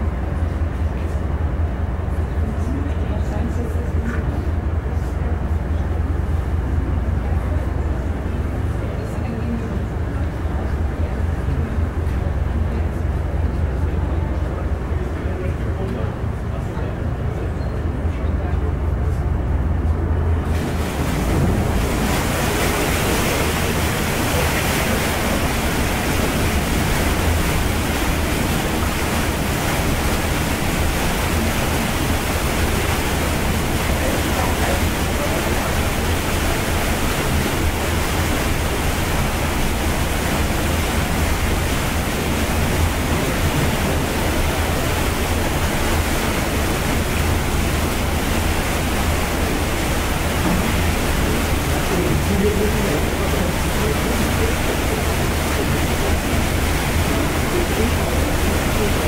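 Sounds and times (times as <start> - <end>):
low engine rumble: 0.0 - 59.0
propeller churning water: 0.0 - 59.0.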